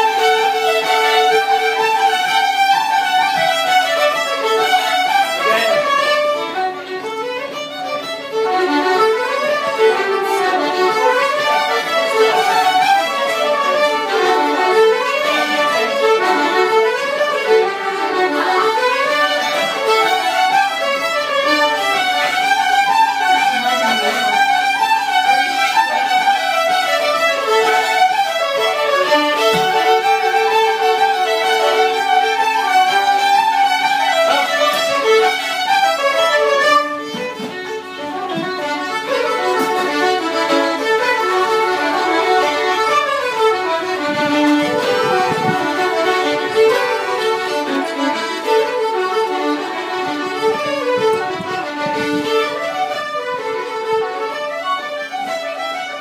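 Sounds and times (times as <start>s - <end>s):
fiddles playing dance tune: 0.0s - 56.0s.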